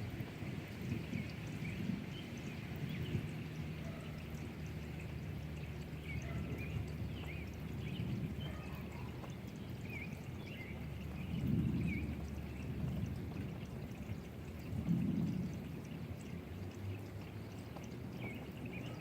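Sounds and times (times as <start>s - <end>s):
steady rain: 0.0s - 19.0s
water pouring and running: 0.0s - 19.0s.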